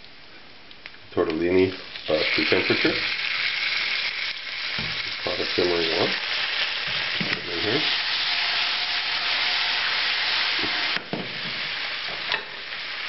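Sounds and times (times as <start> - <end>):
oil sizzling in a frying pan: 1.4 - 13.0.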